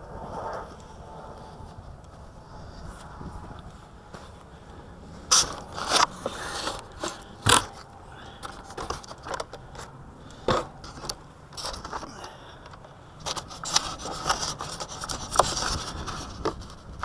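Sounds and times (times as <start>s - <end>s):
wind buffeting microphone: 0.0s - 11.6s, 13.1s - 17.0s.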